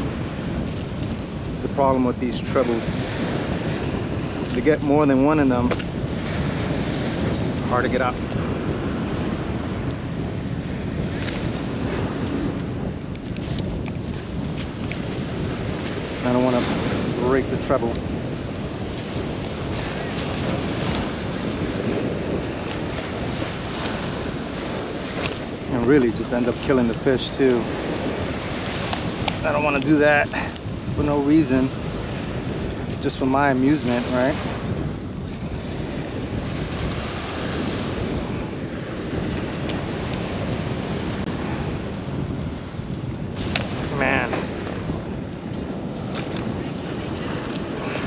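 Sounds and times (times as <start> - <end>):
surf washing onto beach: 0.0 - 48.0
wind buffeting microphone: 0.0 - 48.0.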